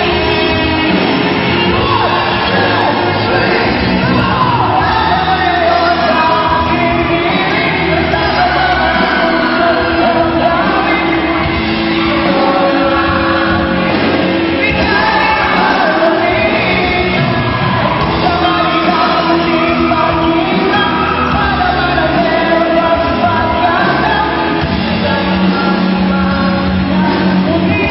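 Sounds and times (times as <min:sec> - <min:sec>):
lead singer singing: 0:00.0 - 0:27.9
live rock band playing: 0:00.0 - 0:27.9.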